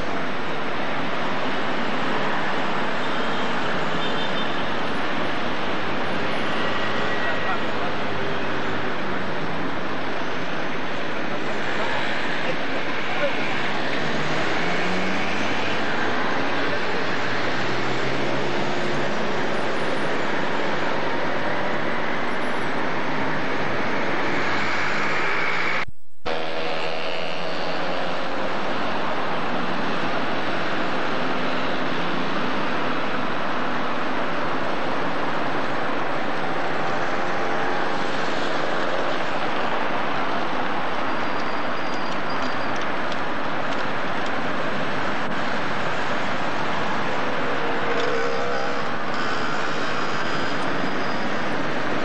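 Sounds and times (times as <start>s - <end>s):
passing cars roaring: 0.0s - 52.0s.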